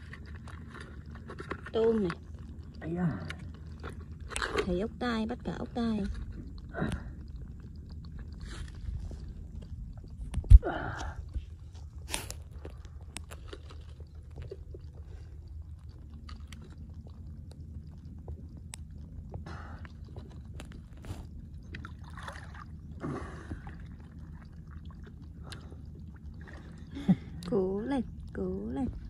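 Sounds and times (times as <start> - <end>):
shallow water sloshing and gurgling: 0.0 - 29.0
steady low rumble: 0.0 - 29.0.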